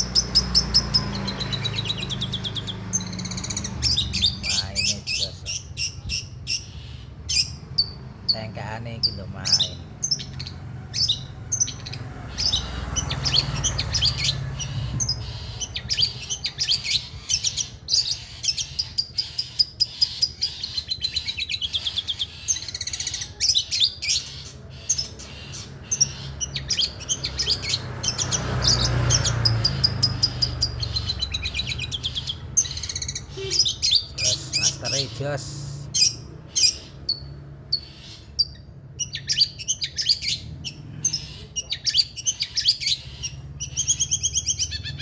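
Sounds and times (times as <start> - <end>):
bird singing chirps and trills: 0.0 - 45.0.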